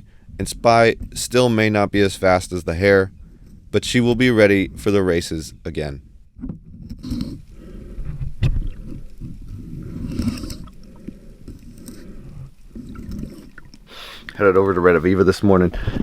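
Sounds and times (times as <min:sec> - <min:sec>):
underwater hull scraping: 0:00.0 - 0:16.0.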